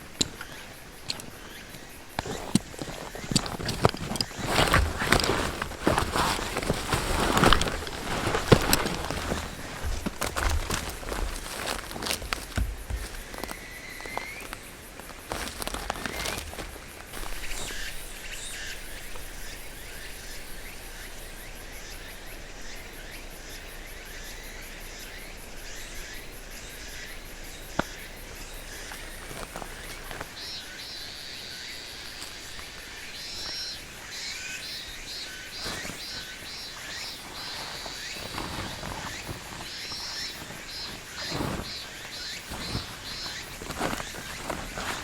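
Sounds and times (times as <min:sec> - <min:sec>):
light rustling: 0:00.0 - 0:20.8, 0:27.8 - 0:45.0
insects chirping trill: 0:00.0 - 0:45.0.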